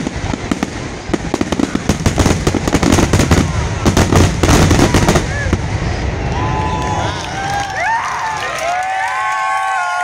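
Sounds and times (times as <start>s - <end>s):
fireworks bangs and crackling: 0.0s - 8.4s.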